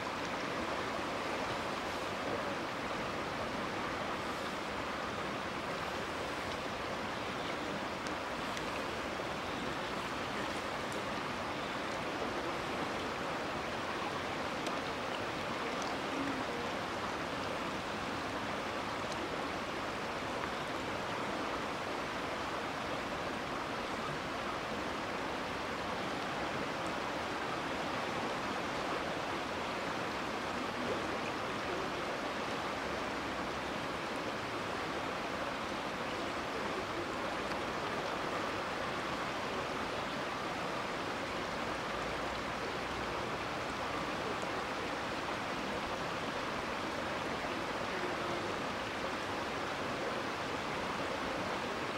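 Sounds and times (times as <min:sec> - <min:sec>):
fast-flowing river rushing: 0:00.0 - 0:51.9.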